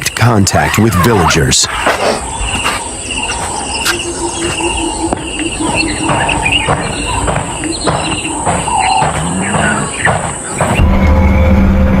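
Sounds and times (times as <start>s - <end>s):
insects trilling: 0.0s - 11.2s
crickets chirping: 0.0s - 11.4s
bird chirps: 0.0s - 11.6s.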